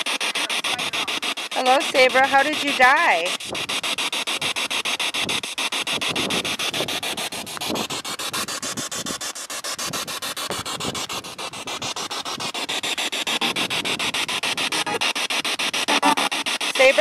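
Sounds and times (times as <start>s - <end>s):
pulsing radio static: 0.0s - 17.0s.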